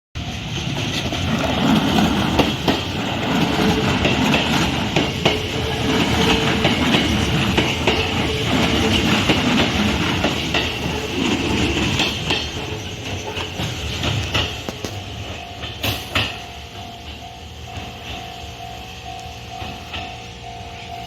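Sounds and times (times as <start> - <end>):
train rumble: 0.2 - 21.0
train wheels clacking on rail joints: 0.2 - 21.0.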